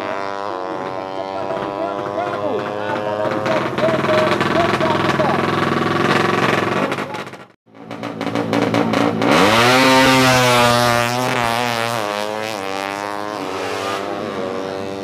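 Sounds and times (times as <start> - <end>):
racing motorcycle engine revving: 0.0 - 15.0.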